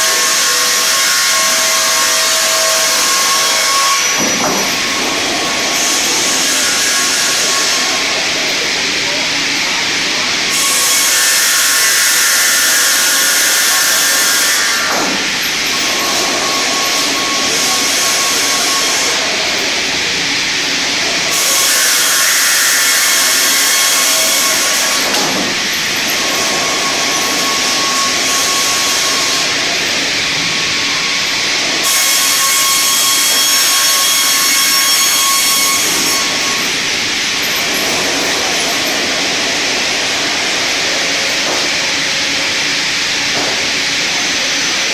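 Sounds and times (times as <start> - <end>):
circular sawmill sawing log: 0.0 - 44.9.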